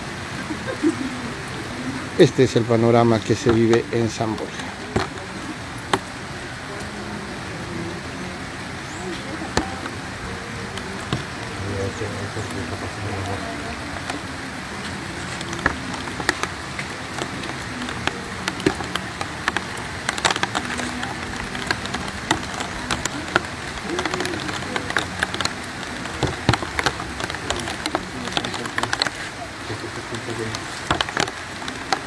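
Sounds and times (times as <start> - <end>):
heavy rain hissing: 0.0 - 32.0
raindrops tapping close by: 0.0 - 32.0.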